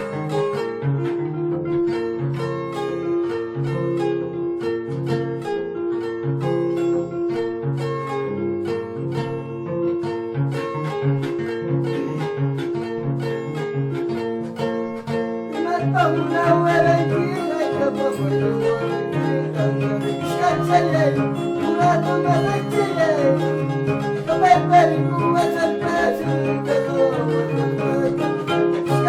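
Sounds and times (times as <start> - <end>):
harp plucked bass and chords: 0.0 - 29.0
wavering melody line: 0.0 - 29.0.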